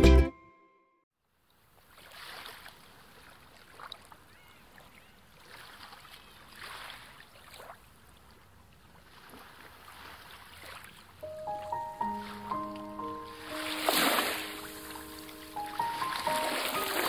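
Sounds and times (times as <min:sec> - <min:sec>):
soft hiss of waves: 0:01.6 - 0:17.0.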